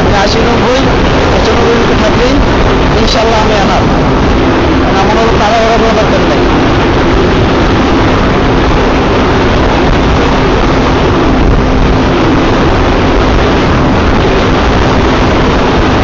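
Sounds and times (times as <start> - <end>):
motorcycle engine hum: 0.0 - 16.0
wind and road noise: 0.0 - 16.0.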